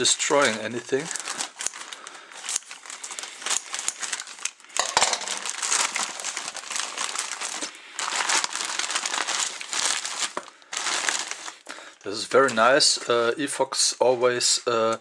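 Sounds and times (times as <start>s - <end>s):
bubble wrap crinkling: 0.0s - 12.9s.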